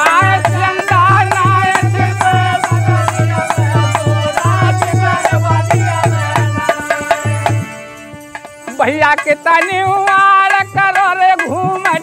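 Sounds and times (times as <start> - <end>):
men singing together: 0.0 - 7.8, 8.7 - 12.0
rattling percussion: 0.0 - 12.0.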